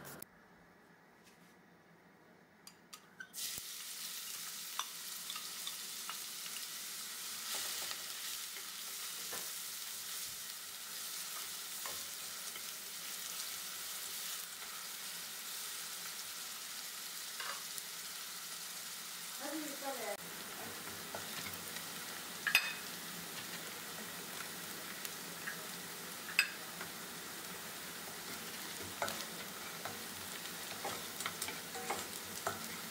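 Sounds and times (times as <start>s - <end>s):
onion sizzling in oil: 3.3s - 32.9s.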